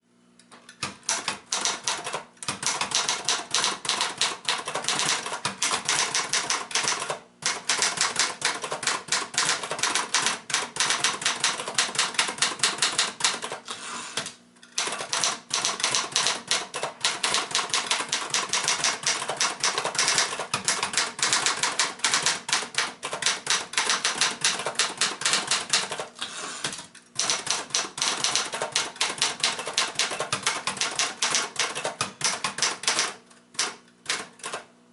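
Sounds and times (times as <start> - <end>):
typewriter keys clacking: 0.8 - 13.7, 14.8 - 34.7.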